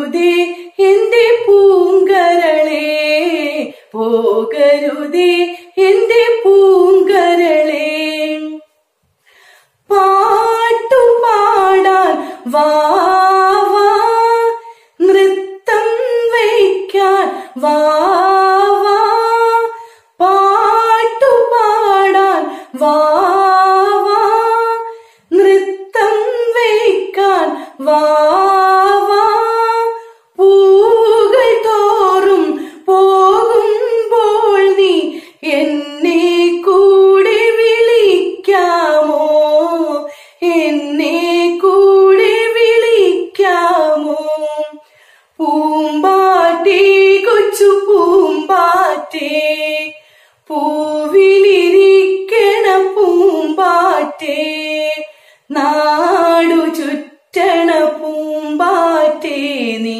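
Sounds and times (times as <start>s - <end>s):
woman singing unaccompanied: 0.0s - 8.8s, 9.8s - 59.9s.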